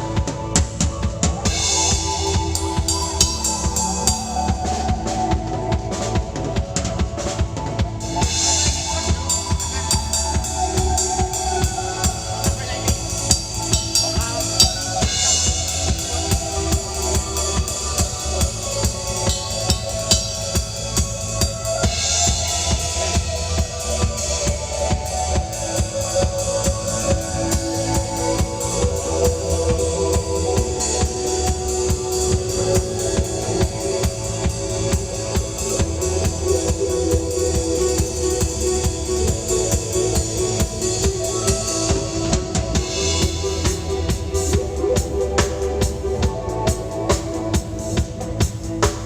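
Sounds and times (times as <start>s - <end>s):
bass line: 0.0s - 49.0s
reggae drum kit beat: 0.0s - 49.0s.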